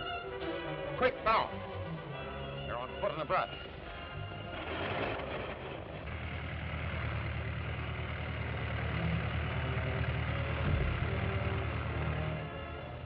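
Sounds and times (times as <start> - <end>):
biplane engine humming: 0.0 - 13.0.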